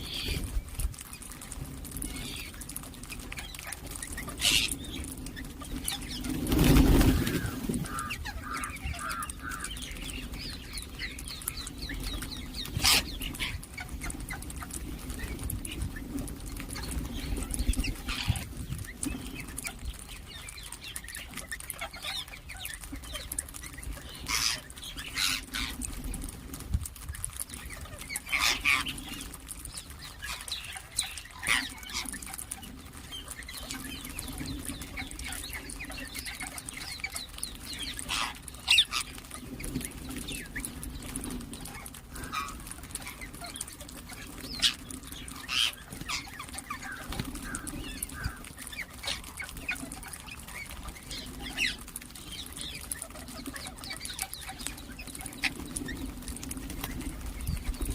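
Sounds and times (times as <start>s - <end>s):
birds giving sharp calls: 0.0s - 26.0s, 26.9s - 57.9s.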